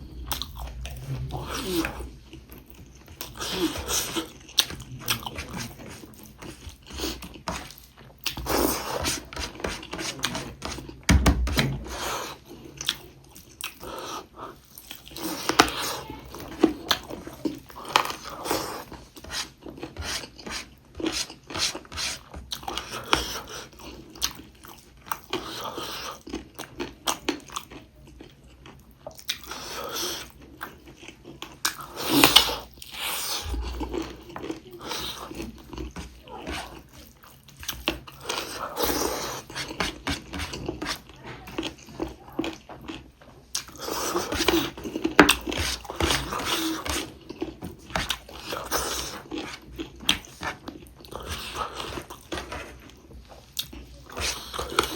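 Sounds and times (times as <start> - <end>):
person chewing: 0.0 - 54.9.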